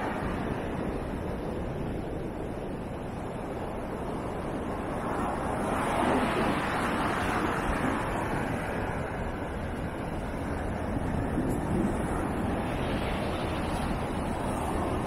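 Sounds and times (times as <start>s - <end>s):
ocean surf breaking: 0.0s - 2.6s, 3.5s - 15.0s
wind rumble on microphone: 0.0s - 15.0s.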